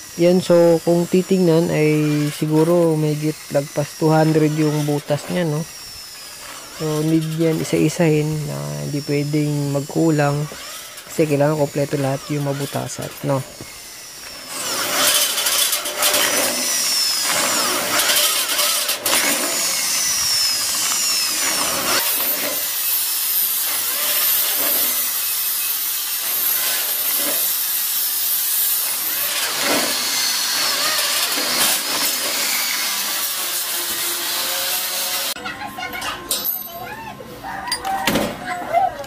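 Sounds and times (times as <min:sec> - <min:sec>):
drill bit squealing through metal: 0:00.0 - 0:35.4
electric drill motor running: 0:00.0 - 0:35.4.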